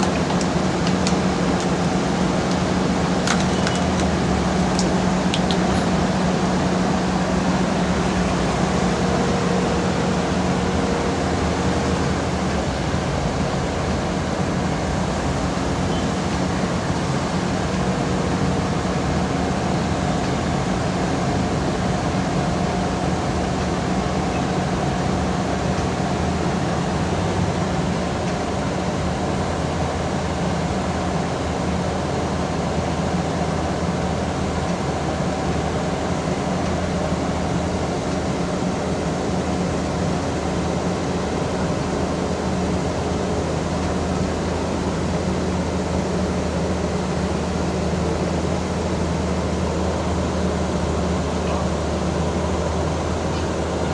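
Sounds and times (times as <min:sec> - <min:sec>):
heavy diesel engine droning: 0:00.0 - 0:53.9.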